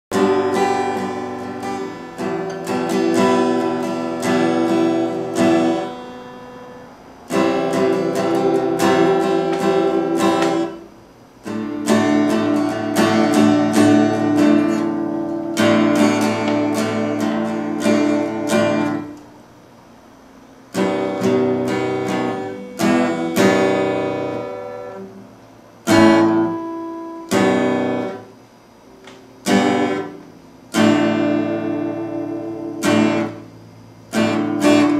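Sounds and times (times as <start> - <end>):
acoustic guitar strumming: 0.1 - 19.7, 20.3 - 34.9.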